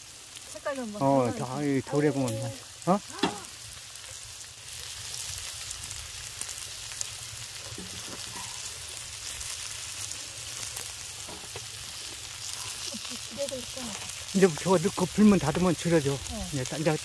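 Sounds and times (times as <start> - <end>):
meat sizzling on griddle: 0.0 - 17.0.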